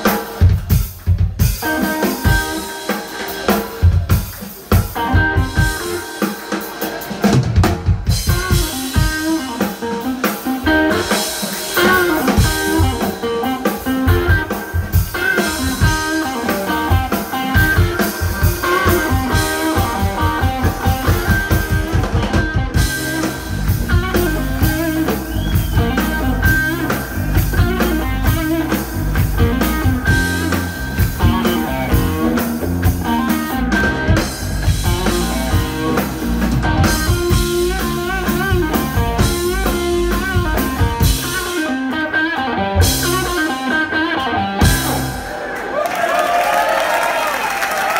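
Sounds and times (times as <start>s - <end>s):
bass guitar: 0.0s - 45.8s
drum kit: 0.0s - 47.9s
electric guitar: 0.0s - 47.9s.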